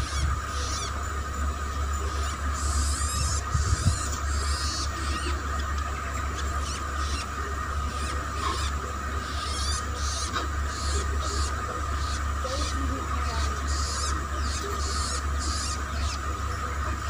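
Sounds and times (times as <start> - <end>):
fledgling bird begging calls: 0.0 - 1.1, 2.0 - 5.5, 6.3 - 16.4.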